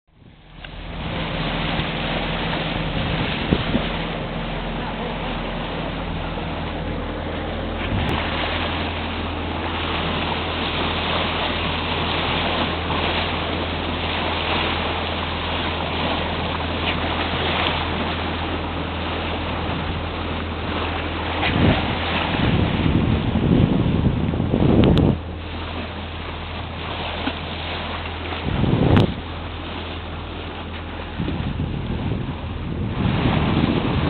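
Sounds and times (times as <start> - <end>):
steady low hum: 0.1 - 34.0
water rushing along boat hull: 0.1 - 34.0
wind buffeting microphone: 0.1 - 34.0.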